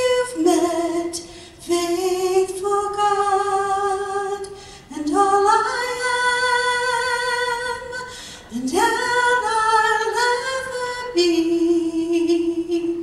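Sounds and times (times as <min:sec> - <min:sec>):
woman singing a cappella: 0:00.0 - 0:13.0.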